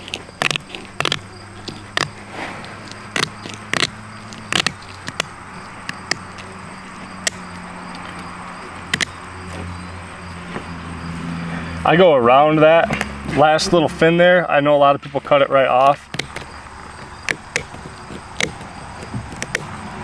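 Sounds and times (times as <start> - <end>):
shears crunching through scales: 0.0 - 11.7, 15.2 - 20.0.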